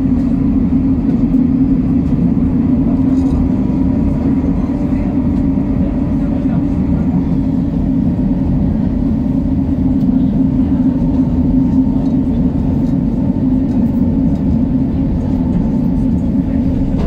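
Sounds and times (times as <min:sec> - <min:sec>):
vehicle engine rumble and hum: 0:00.0 - 0:17.0.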